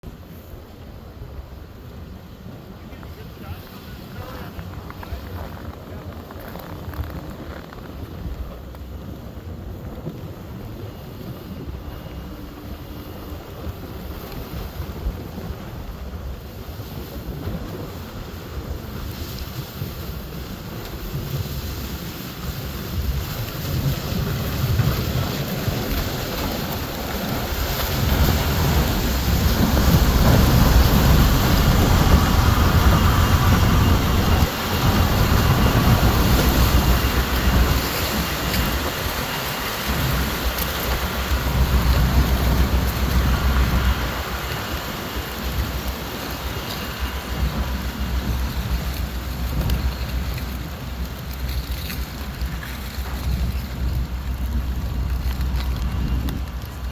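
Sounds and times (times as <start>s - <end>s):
tugboat engine rumble: 0.0s - 56.9s
churning water: 0.2s - 56.9s
wind buffeting microphone: 0.2s - 56.9s.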